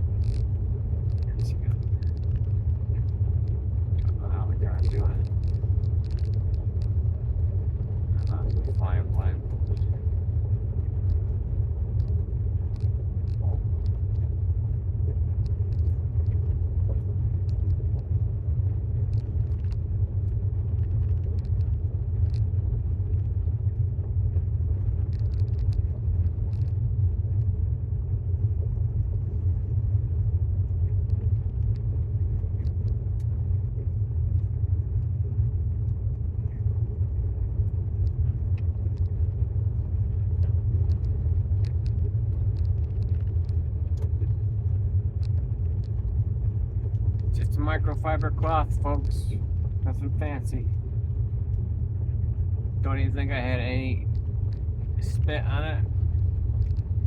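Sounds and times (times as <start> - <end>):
faint ticks: 0.0 - 57.0
tyre road rumble inside car: 0.0 - 57.0.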